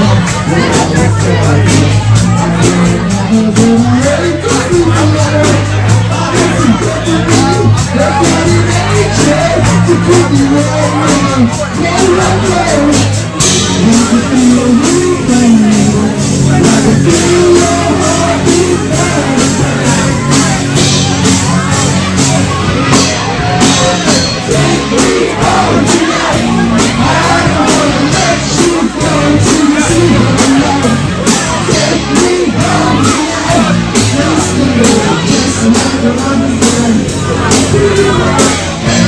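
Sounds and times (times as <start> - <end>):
crowd shouting: 0.0 - 39.0
person singing: 0.0 - 39.0
rock band playing: 0.0 - 39.0.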